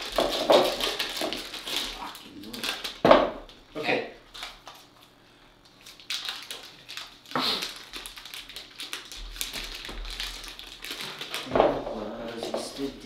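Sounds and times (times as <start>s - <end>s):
paper wrapper crinkling: 0.0s - 3.6s, 4.3s - 13.0s.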